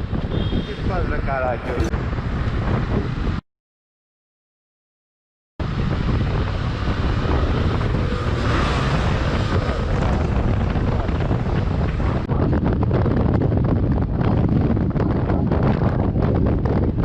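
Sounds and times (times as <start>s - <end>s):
motorcycle riding at speed: 0.0s - 3.4s, 5.6s - 17.0s
wind rushing on microphone: 0.0s - 3.4s, 5.6s - 17.0s.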